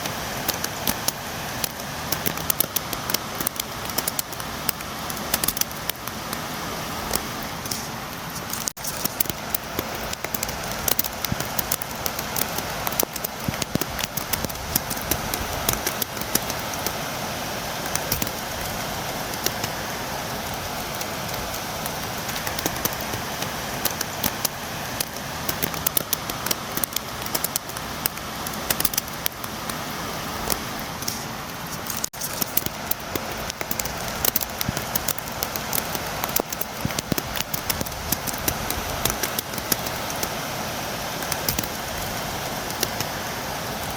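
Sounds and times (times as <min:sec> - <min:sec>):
rain tapping on window: 0:00.0 - 0:43.9.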